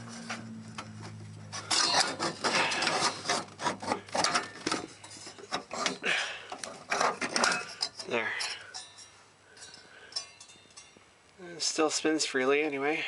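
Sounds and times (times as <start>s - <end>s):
scraping and rubbing on metal: 0.0s - 11.0s
low steady hum: 0.0s - 13.0s.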